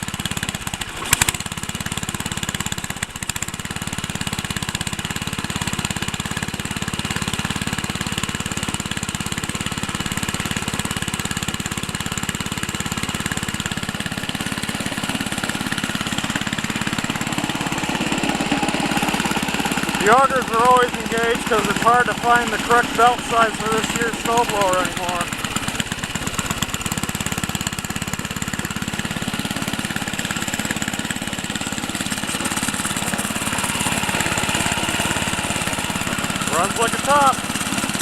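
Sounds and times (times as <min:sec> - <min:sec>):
snowblower engine running: 0:00.0 - 0:38.0.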